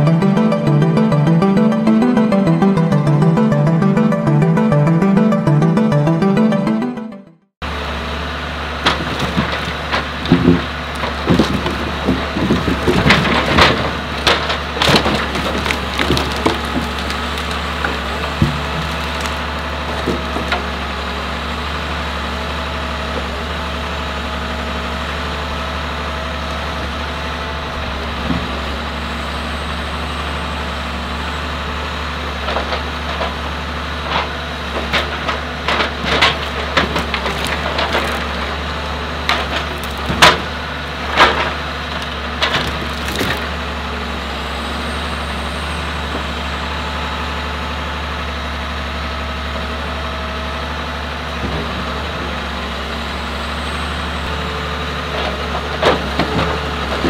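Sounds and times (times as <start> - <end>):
diesel engine running: 7.6 - 57.0.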